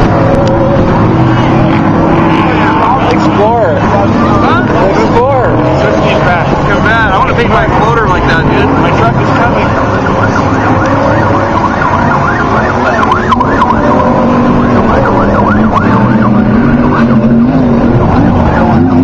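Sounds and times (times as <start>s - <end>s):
truck engines revving hard: 0.0s - 19.0s.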